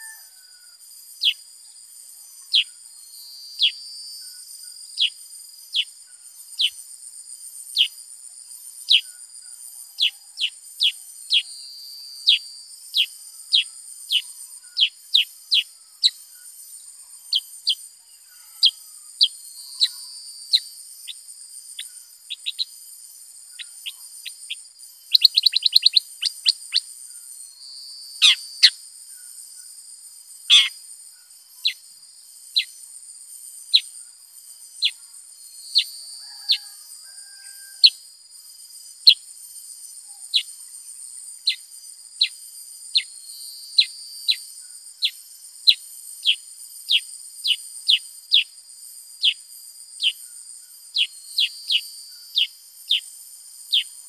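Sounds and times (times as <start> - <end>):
bird chirping: 0.0 - 6.8, 8.6 - 36.7, 39.8 - 48.6, 49.2 - 54.0.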